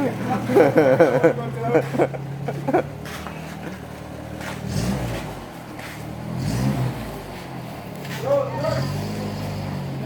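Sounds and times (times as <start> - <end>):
engine revving: 0.0 - 10.0.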